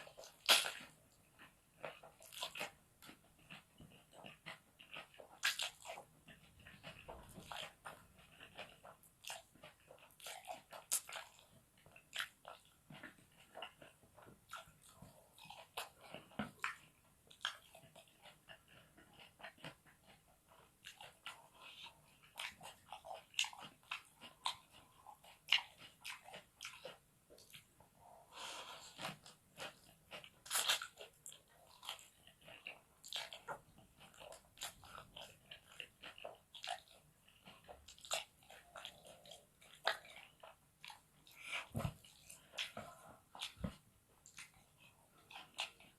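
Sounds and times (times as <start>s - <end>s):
chewing and crunching: 0.0s - 45.9s.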